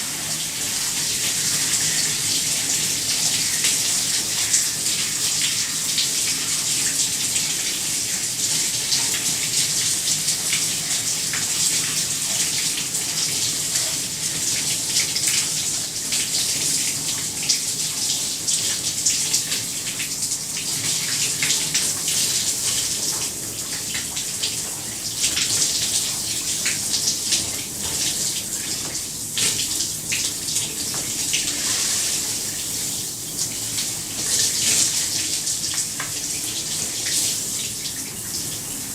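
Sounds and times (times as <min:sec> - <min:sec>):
shower water spraying: 0:00.0 - 0:38.9.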